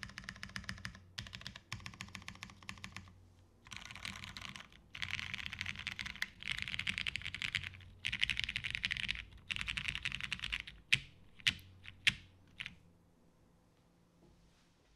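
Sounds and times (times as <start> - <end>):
fast typing on mechanical keyboard: 0.0 - 12.8.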